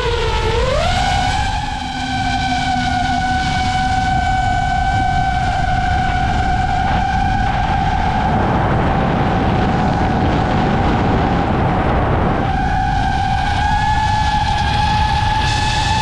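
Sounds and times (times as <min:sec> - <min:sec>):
drone propellers whining: 0:00.0 - 0:16.0
heavy wind rush: 0:00.0 - 0:16.0.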